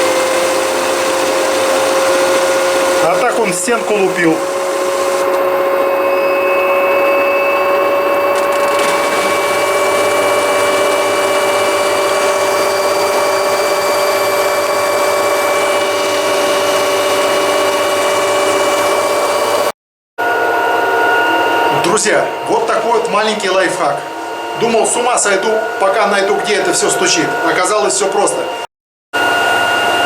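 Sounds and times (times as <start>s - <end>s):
washing machine spinning: 0.0s - 28.6s.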